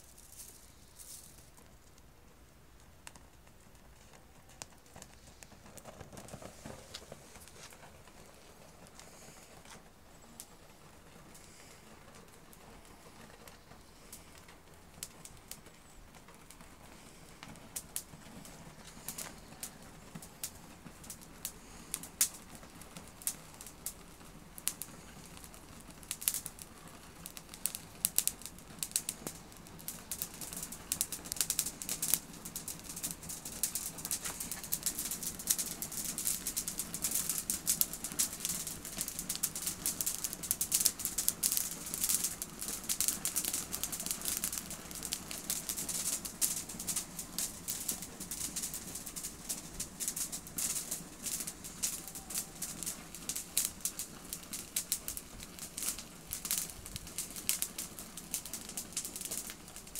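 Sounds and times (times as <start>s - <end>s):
branch needles crackling and popping: 0.0s - 59.9s
low rushing of flame: 0.0s - 59.9s.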